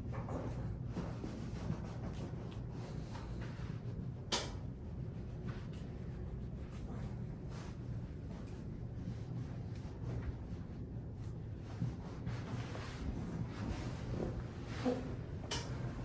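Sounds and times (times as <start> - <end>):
hands rustling on skin and clothing: 0.9 - 15.2.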